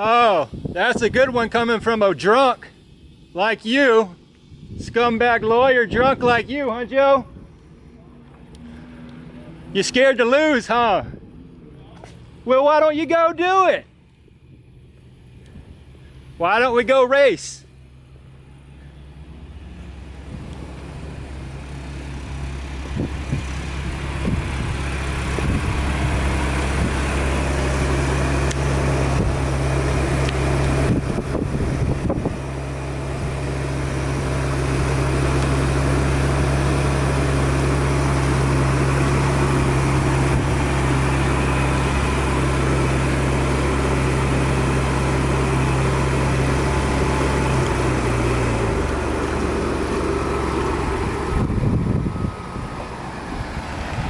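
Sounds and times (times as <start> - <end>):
vehicle engine idling: 0.0 - 54.0.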